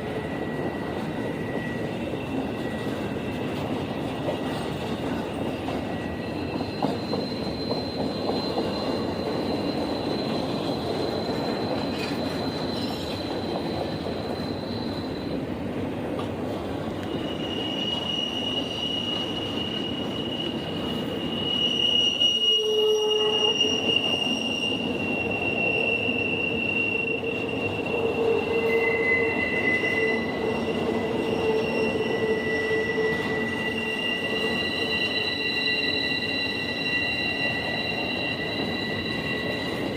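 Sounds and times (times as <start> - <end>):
train rumble: 0.0 - 39.9
train wheels squealing on rails: 0.0 - 39.9.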